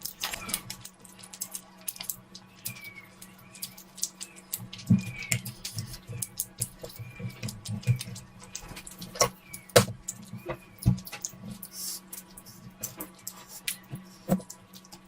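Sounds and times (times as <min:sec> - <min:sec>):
quick irregular clicks: 0:00.0 - 0:15.0
wet chewing and lip-smacking: 0:00.0 - 0:15.0.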